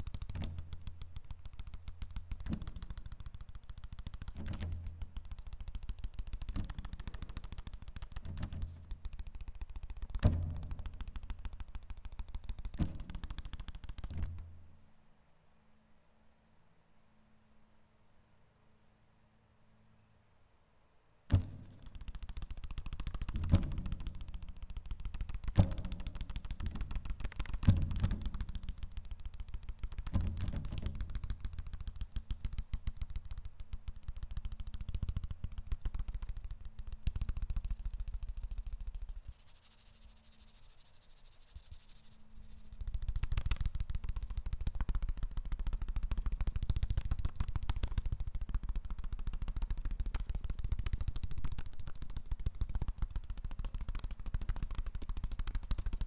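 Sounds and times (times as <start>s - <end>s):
paper rattling: 0.0s - 14.5s, 21.4s - 56.0s.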